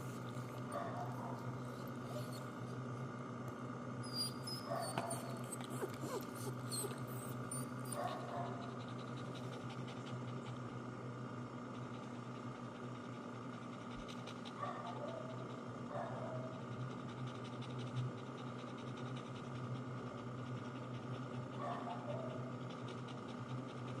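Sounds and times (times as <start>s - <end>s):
dog panting: 0.0s - 3.1s, 4.0s - 24.0s
low electrical hum: 0.0s - 24.0s.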